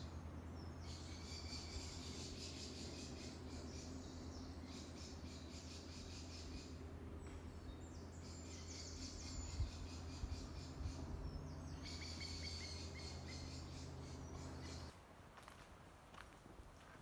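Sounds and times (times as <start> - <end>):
songbird trilling: 0.0 - 14.9
steady low hum: 0.0 - 17.0.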